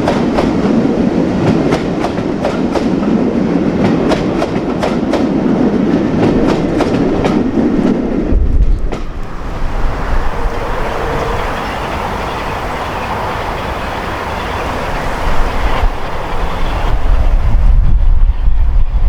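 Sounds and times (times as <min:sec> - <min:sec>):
train wheels clicking over rail joints: 0:00.0 - 0:17.6
deep train rumble: 0:00.0 - 0:19.0.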